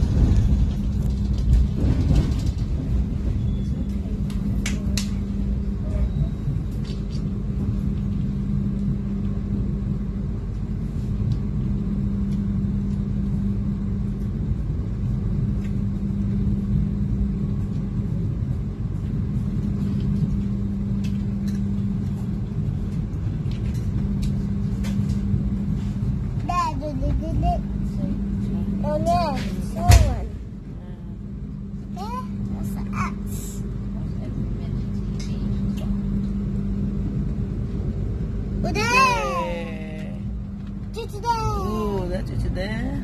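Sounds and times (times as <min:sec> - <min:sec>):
train rumble inside carriage: 0:00.0 - 0:43.0.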